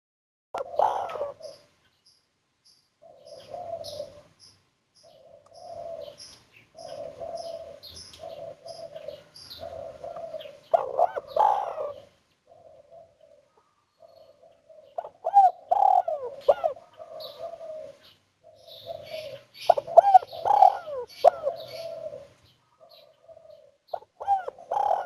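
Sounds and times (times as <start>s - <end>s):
dove cooing: 0.6s - 1.7s, 3.0s - 4.4s, 5.0s - 25.0s
small birds chirping: 0.6s - 25.0s.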